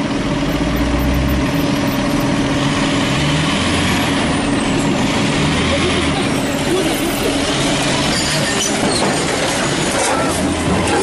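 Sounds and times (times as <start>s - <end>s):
heavy vehicle engine drone: 0.0s - 11.0s.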